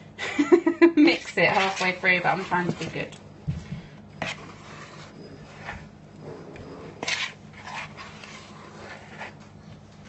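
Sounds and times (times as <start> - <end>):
utensil scraping batter in bowl: 1.0 - 10.0.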